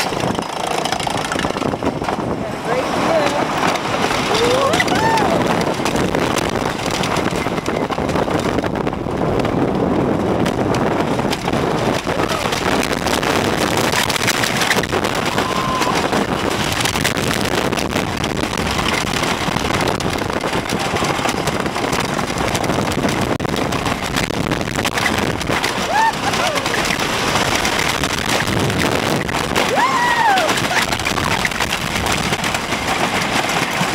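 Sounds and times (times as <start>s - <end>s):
roller coaster rattling rumble: 0.0s - 33.9s
wind buffeting microphone: 0.0s - 33.9s.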